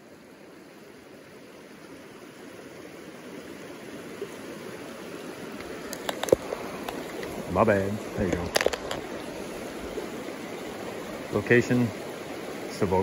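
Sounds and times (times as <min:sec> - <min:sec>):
river water rushing over rocks: 0:00.1 - 0:13.0.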